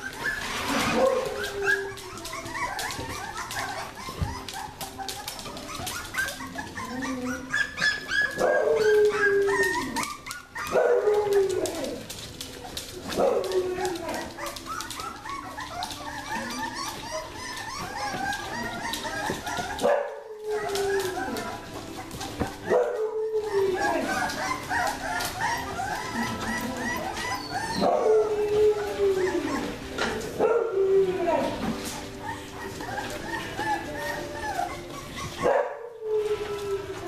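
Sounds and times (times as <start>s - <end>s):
puppies yipping and whining: 0.0s - 37.0s.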